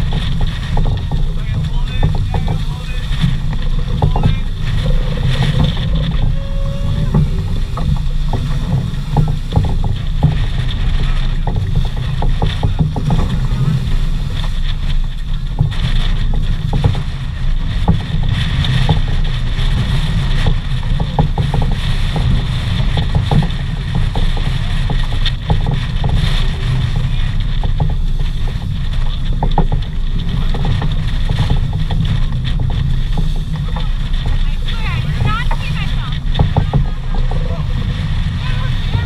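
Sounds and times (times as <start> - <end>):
water rushing along hull: 0.0 - 39.0
wind buffeting microphone: 0.0 - 39.0.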